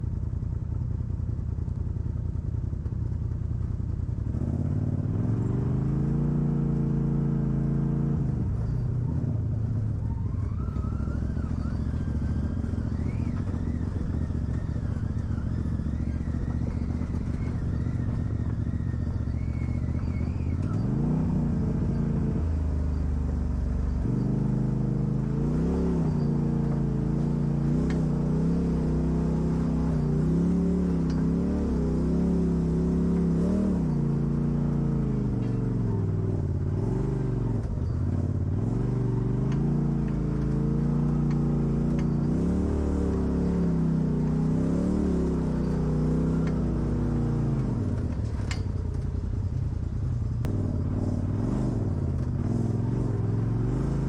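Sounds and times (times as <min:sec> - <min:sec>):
vehicle engine revving: 0:04.2 - 0:54.0.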